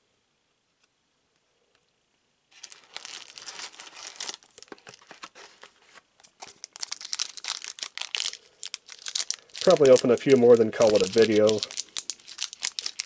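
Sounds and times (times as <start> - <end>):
foil wrapper crinkling and tearing: 2.5 - 13.0.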